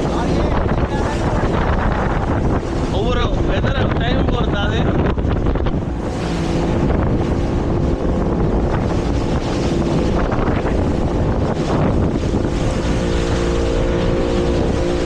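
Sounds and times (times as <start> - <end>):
motorboat engine running: 0.0 - 15.0
rushing water: 0.0 - 15.0
wind buffeting microphone: 0.0 - 15.0.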